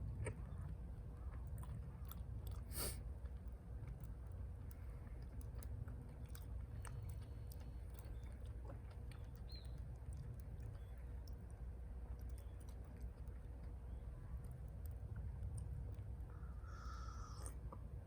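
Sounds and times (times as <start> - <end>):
person chewing food: 0.0 - 16.4.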